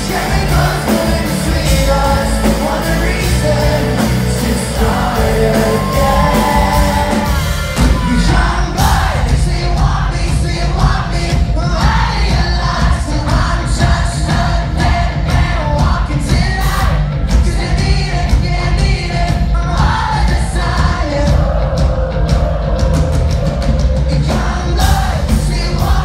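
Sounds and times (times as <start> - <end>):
lead singer singing: 0.0 - 26.0
live rock band playing: 0.0 - 26.0.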